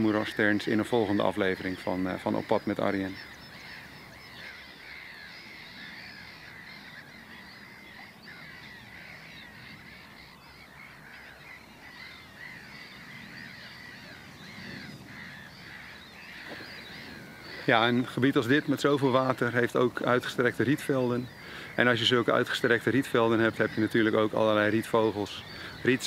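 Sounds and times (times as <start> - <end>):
gull colony calling: 0.0 - 26.0.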